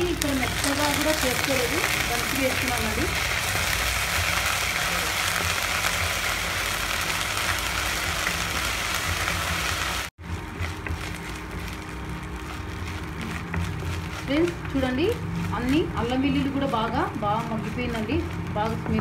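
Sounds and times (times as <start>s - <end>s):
vegetables sizzling in hot oil: 0.0s - 19.0s
wooden spatula stirring: 0.0s - 19.0s.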